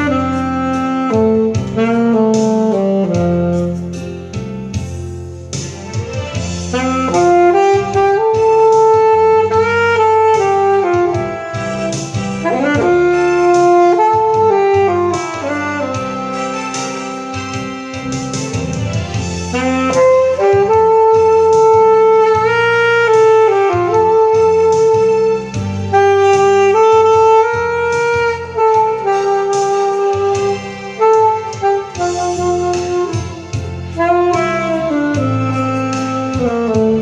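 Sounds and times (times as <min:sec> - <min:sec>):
backing accompaniment with bass and beat: 0:00.0 - 0:37.0
saxophone slow melody: 0:00.0 - 0:37.0.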